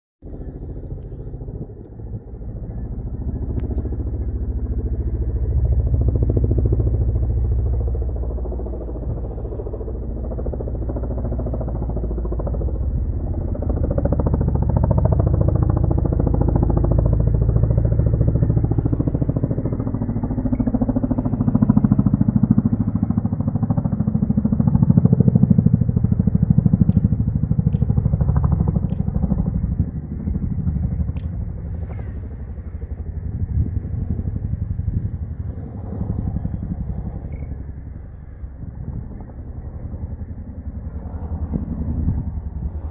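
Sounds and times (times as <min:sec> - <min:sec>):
helicopter rotor rumble: 0:00.2 - 0:42.9.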